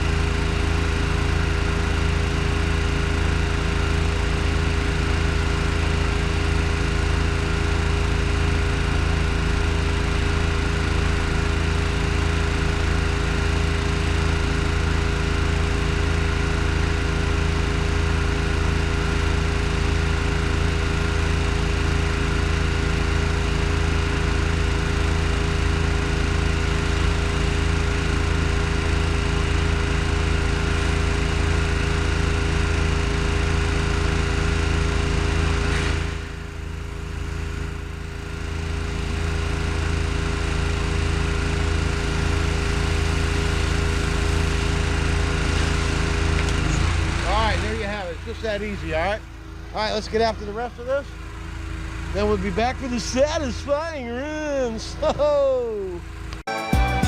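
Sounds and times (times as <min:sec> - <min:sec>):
pressure washer engine running: 0:00.0 - 0:56.5.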